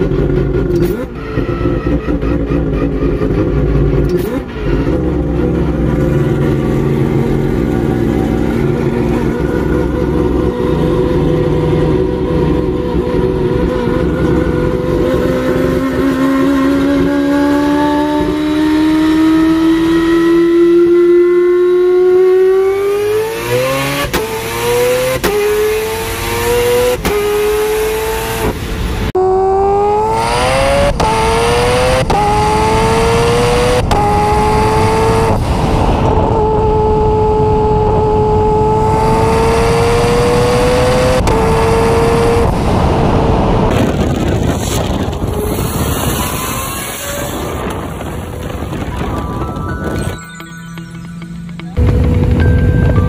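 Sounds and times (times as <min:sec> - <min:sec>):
rotary engine accelerating: 0:00.0 - 0:53.0.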